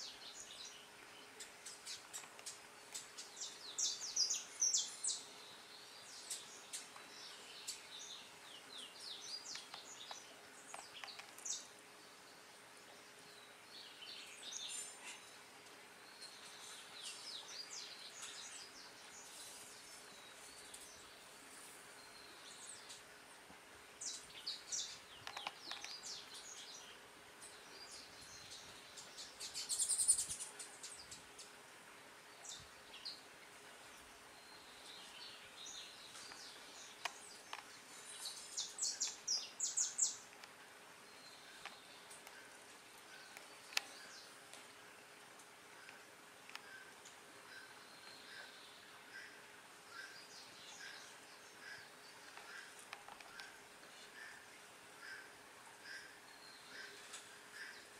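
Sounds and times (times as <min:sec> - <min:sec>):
birds chirping and trilling: 0:00.0 - 0:23.4, 0:24.0 - 0:31.7, 0:32.3 - 0:44.5, 0:45.7 - 0:57.9.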